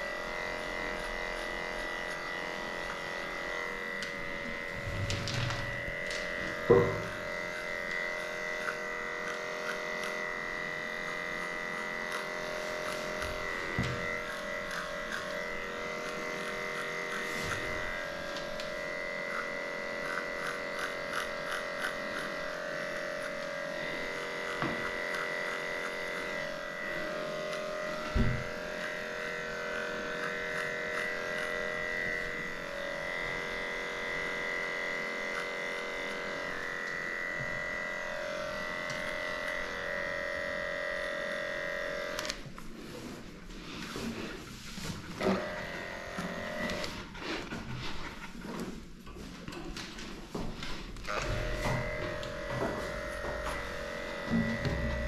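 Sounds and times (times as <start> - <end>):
electric clippers whining: 0.0 - 55.0.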